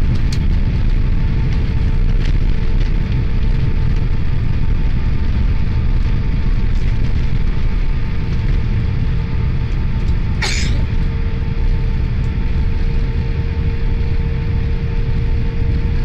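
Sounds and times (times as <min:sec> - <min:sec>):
constant hum: 0:00.0 - 0:16.0
jet airliner low rumble: 0:00.0 - 0:16.0.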